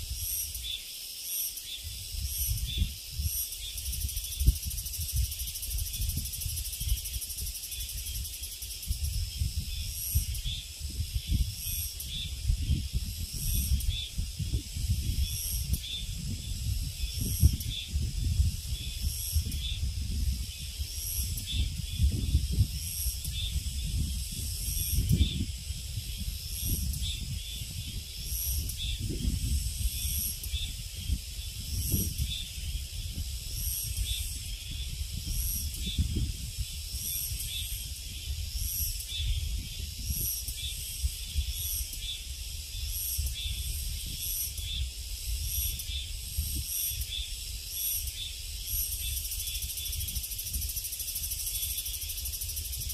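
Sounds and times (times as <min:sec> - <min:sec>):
wind rumble on microphone: 0:00.0 - 0:00.8, 0:01.6 - 0:52.9
insect chorus shrilling: 0:00.0 - 0:52.9.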